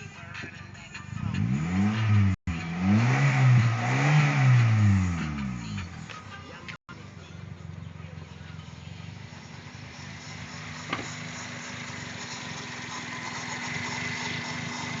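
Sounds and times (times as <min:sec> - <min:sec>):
car engine running: 0:01.1 - 0:15.0.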